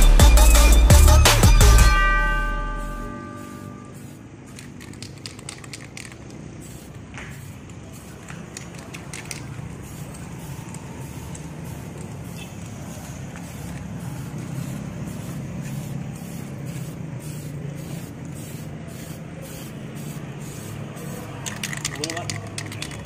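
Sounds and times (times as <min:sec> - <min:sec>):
spray paint can hissing: 0:02.8 - 0:23.0.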